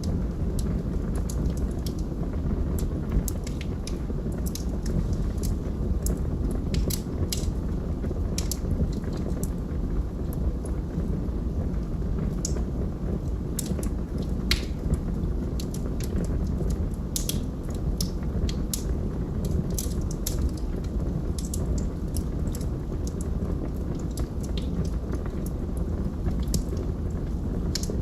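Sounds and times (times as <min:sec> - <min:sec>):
log fire burning: 0:00.0 - 0:28.0.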